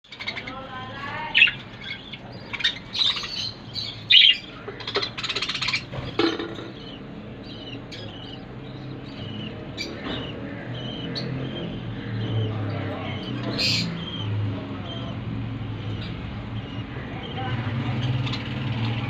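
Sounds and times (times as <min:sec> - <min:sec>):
budgerigars chirping: 0:00.1 - 0:19.0.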